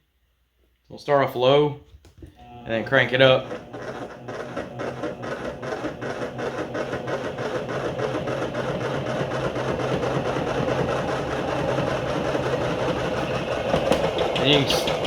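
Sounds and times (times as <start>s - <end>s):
honey extractor spinning: 2.2s - 15.0s.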